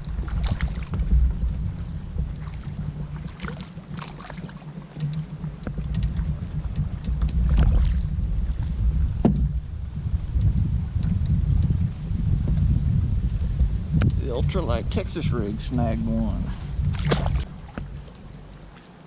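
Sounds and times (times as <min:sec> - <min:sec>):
water splashing around kayak: 0:00.0 - 0:19.0
wind rumbling on microphone: 0:00.0 - 0:19.0.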